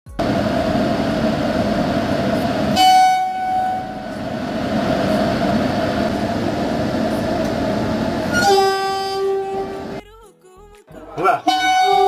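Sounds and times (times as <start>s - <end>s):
locomotive horn blast: 0.1s - 10.0s, 11.2s - 12.0s
train running rumble: 0.1s - 10.0s.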